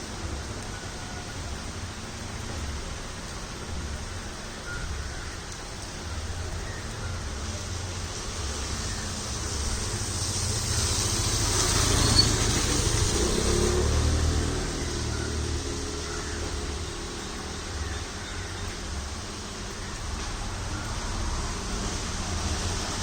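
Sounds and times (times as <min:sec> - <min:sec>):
vehicle passing on wet road: 0:00.0 - 0:23.0.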